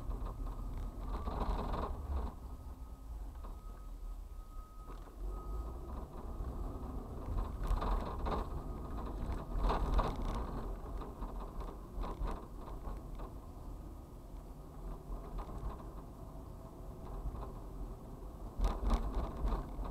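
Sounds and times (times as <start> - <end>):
engine and road rumble: 0.0 - 19.9.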